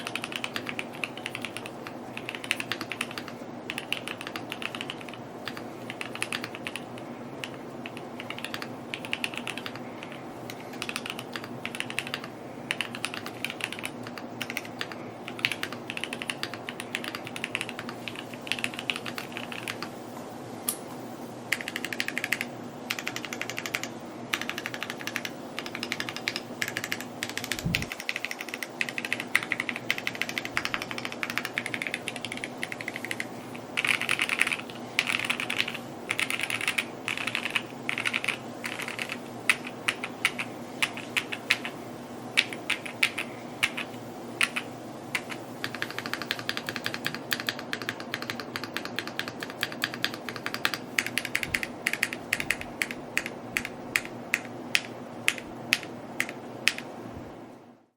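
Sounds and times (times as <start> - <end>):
mechanical keyboard typing: 0.0 - 19.9, 21.5 - 41.8, 42.4 - 56.9.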